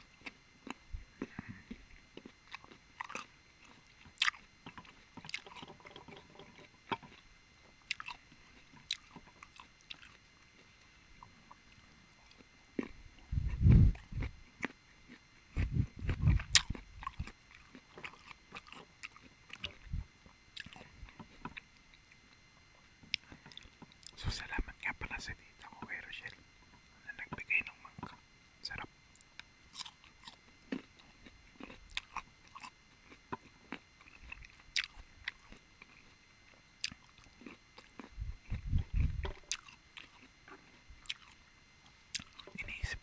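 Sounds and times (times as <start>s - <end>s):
wet chewing and smacks: 0.0s - 43.0s.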